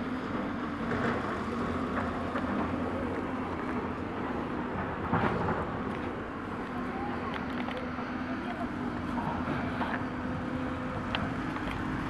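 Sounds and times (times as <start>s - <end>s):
diesel machinery engine drone: 0.0s - 12.0s.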